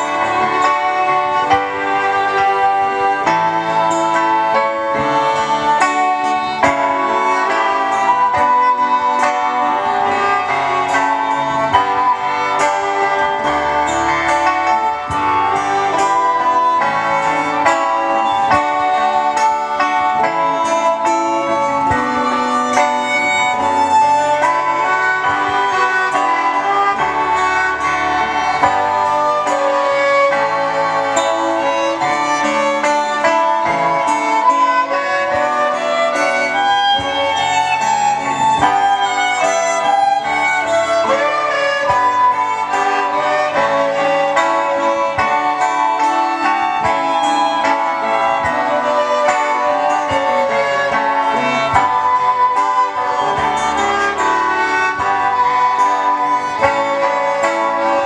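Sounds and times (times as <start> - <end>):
electronic keyboard: 0.0 - 58.0
violins playing melody: 0.0 - 58.0.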